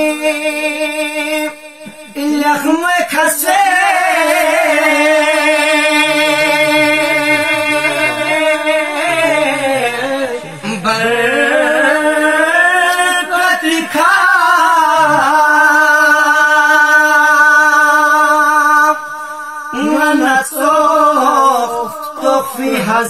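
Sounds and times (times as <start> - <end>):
men singing unaccompanied chant: 0.0 - 23.0.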